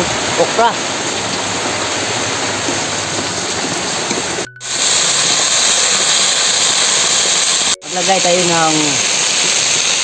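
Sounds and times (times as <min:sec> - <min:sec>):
okra sizzling in hot oil: 0:01.0 - 0:10.0.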